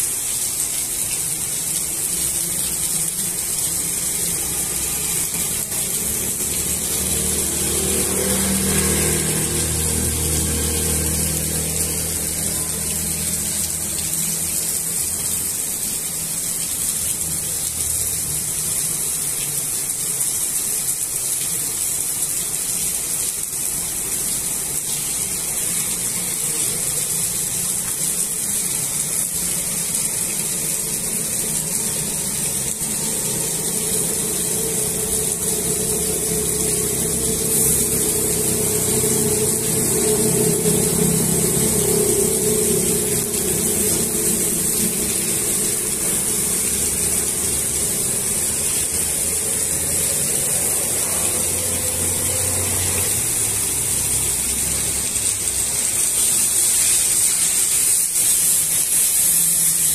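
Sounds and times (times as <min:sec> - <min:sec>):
motor rickshaw engine hum: 0:00.0 - 0:16.4, 0:23.0 - 0:59.9
rain falling on puddles: 0:00.0 - 0:59.9.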